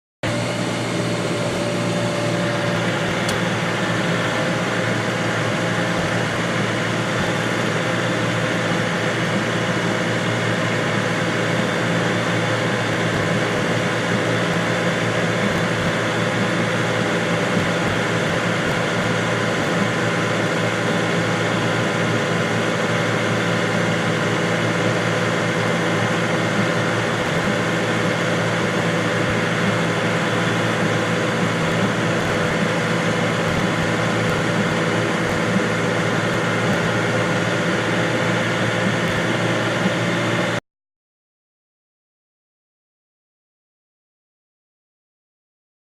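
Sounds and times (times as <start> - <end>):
machine humming: 0.2 - 40.6.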